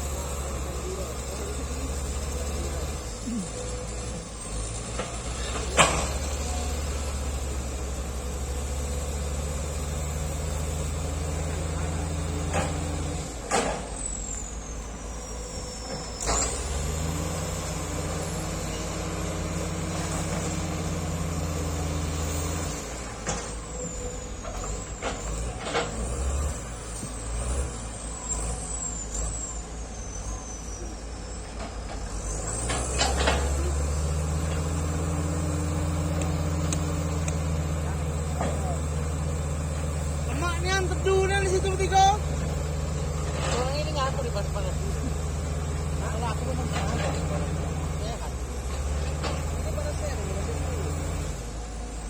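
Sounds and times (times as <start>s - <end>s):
diesel engine droning: 0.0s - 52.0s.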